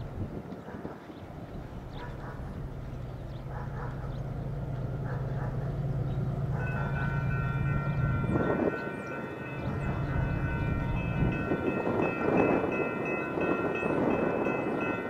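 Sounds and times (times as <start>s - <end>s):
diesel locomotives rumbling: 0.0s - 15.0s
locomotive horn chord: 1.6s - 15.0s.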